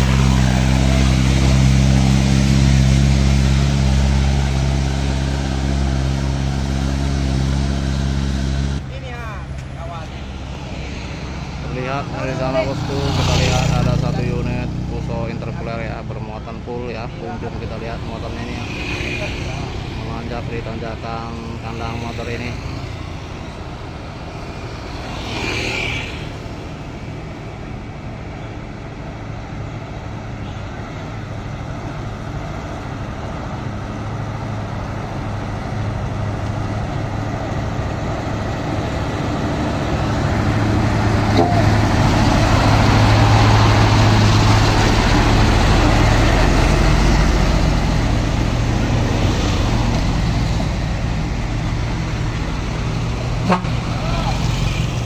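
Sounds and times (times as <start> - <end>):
another truck approaching: 0.0 - 55.0
truck diesel engine passing: 0.0 - 55.0.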